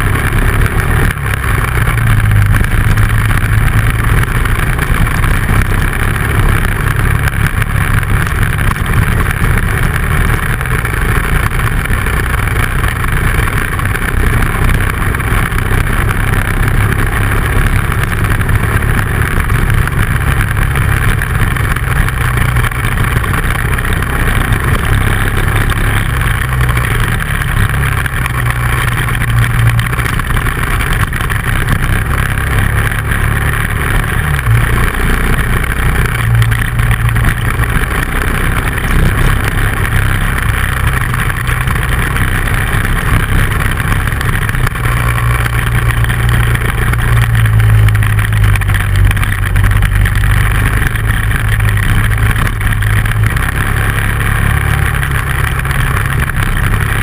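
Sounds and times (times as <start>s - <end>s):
motorcycle engine: 0.0s - 57.0s
wind and tyre noise: 0.0s - 57.0s.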